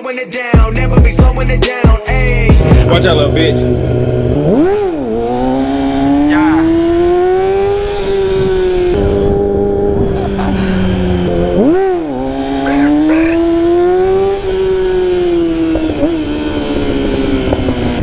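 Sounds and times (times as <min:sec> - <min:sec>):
motorcycle engine accelerating: 0:00.9 - 0:18.0.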